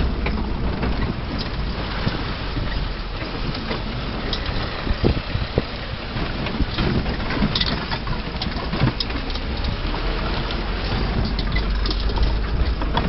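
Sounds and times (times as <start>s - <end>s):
low engine rumble: 0.0s - 13.0s
vehicle knocks and rattles: 0.0s - 13.0s.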